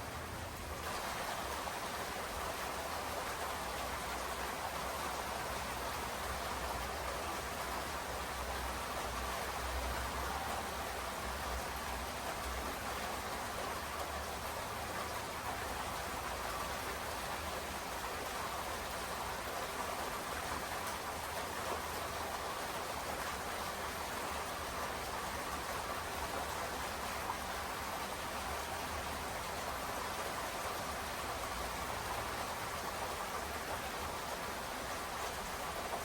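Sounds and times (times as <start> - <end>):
steady rainfall: 0.0 - 36.0.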